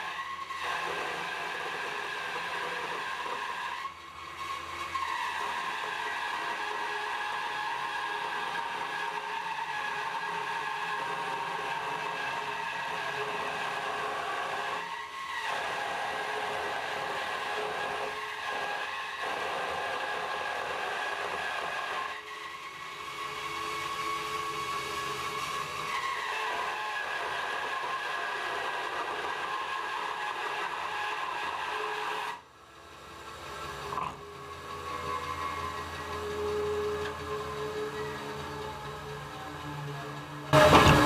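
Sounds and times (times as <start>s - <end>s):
bandsaw whining through wood: 0.0s - 41.0s.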